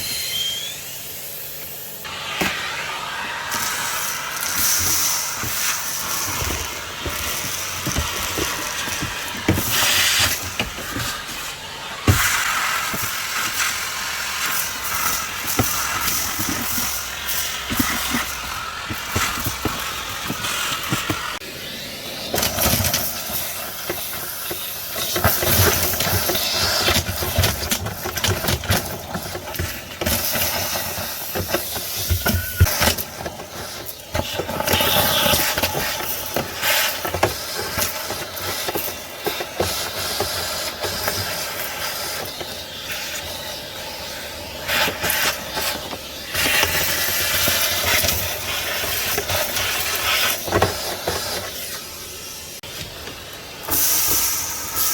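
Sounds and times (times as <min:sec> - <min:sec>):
vacuum cleaner running: 0:00.0 - 0:54.9
debris rattling up a hose: 0:00.1 - 0:21.4, 0:22.1 - 0:54.9.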